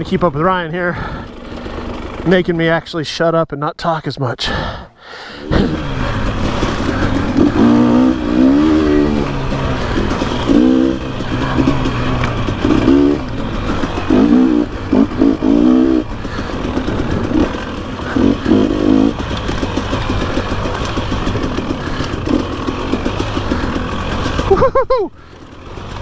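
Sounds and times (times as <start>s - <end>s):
dirt bike engine revving: 0.0s - 2.8s, 5.2s - 26.0s.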